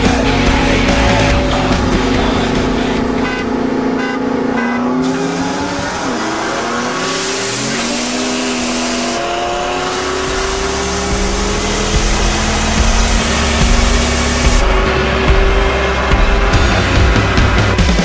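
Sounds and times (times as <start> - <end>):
cars accelerating hard: 0.0 - 18.0.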